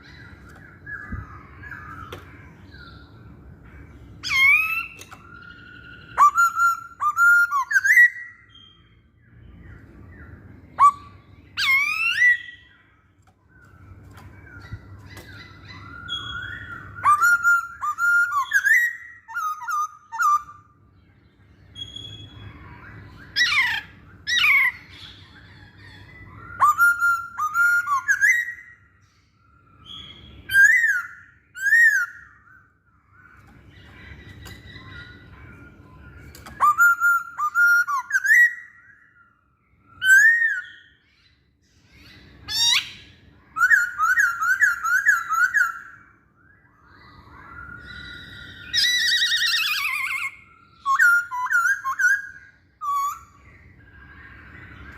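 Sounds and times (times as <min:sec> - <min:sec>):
bird singing whistled notes: 0:00.0 - 0:54.9.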